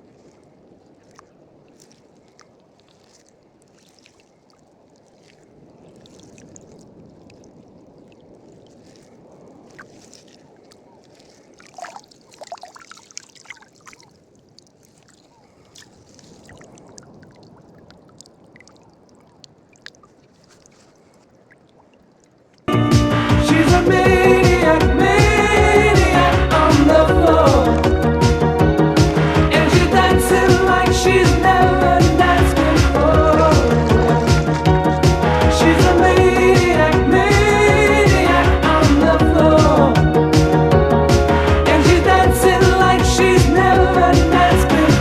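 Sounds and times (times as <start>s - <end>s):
water lapping and trickling: 0.0s - 22.8s, 24.4s - 45.0s
water splashing: 0.0s - 45.0s.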